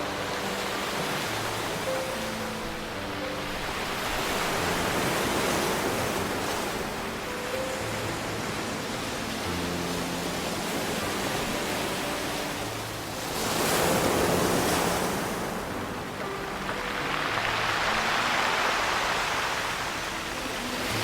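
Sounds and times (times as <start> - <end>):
ocean waves on a beach: 0.0 - 21.0.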